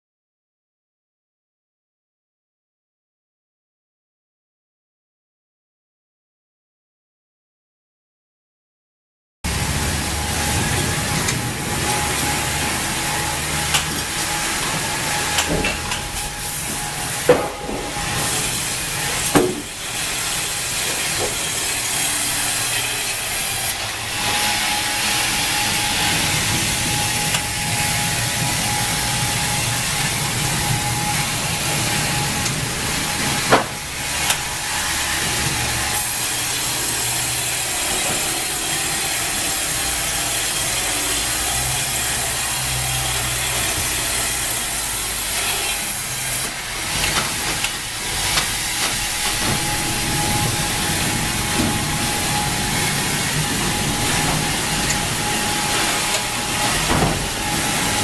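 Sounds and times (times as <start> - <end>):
band sawmill hiss and whine: 9.5 - 58.0.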